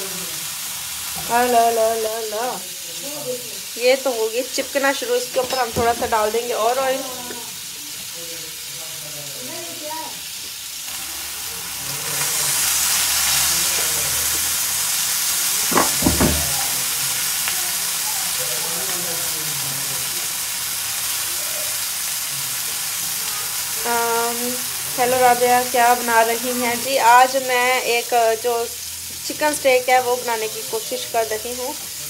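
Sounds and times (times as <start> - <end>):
chicken sizzling in a grill pan: 0.0 - 32.0.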